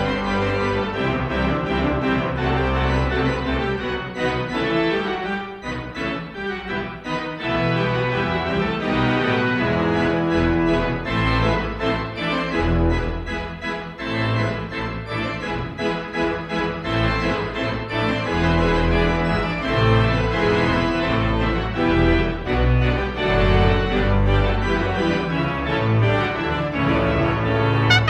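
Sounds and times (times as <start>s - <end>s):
instrumental music with held chords: 0.0s - 28.0s.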